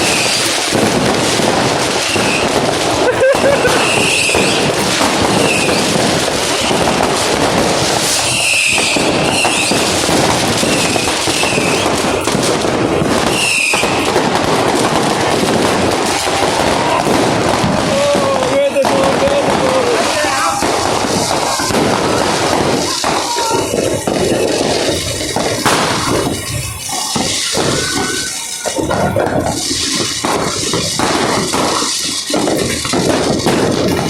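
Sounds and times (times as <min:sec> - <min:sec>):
firework whistles: 0:00.0 - 0:34.0
fireworks crackling and banging: 0:00.0 - 0:34.0.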